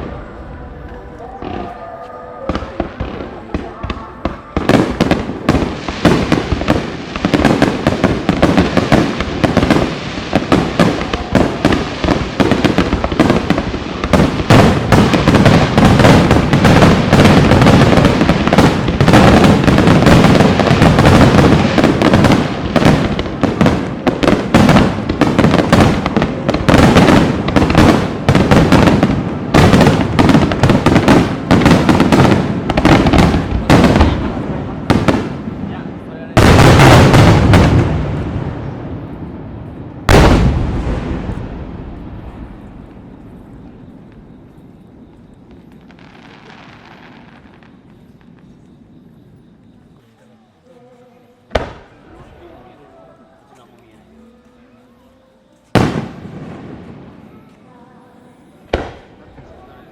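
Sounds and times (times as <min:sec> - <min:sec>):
fireworks bangs and crackles: 0:00.0 - 0:50.5, 0:51.4 - 0:54.3, 0:55.7 - 0:57.7, 0:58.6 - 0:59.9.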